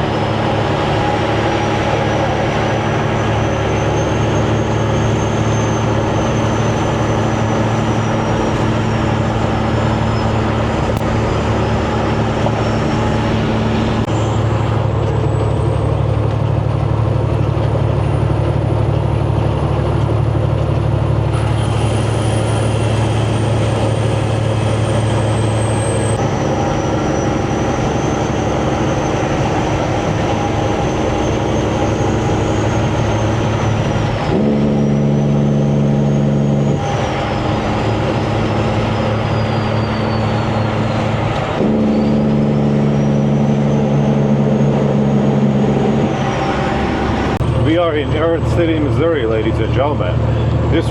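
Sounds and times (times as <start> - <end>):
diesel truck engine running: 0.0 - 50.9
road noise: 0.0 - 50.9.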